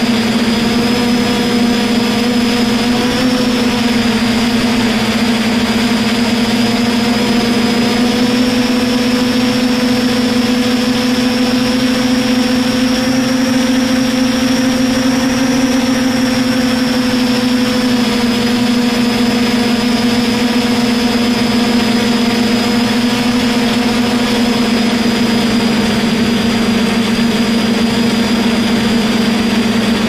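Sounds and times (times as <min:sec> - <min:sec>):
quadcopter motors buzzing: 0:00.0 - 0:30.0.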